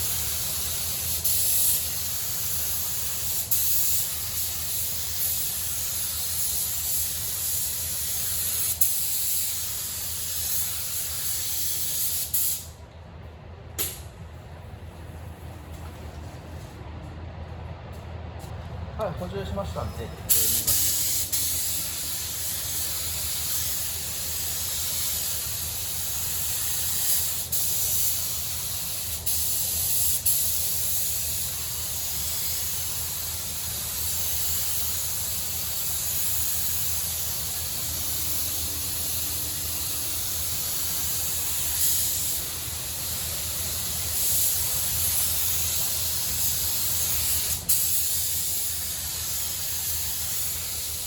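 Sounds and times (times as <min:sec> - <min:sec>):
paint spray gun hissing: 0:00.0 - 0:12.7, 0:20.3 - 0:51.0.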